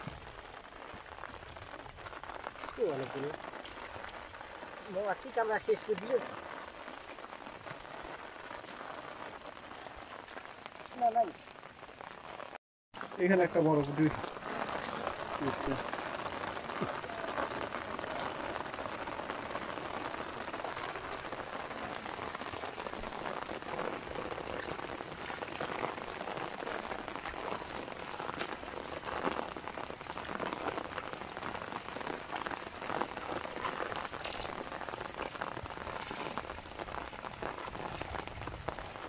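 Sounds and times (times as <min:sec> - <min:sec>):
rain falling on water and grass: 0:00.0 - 0:39.0.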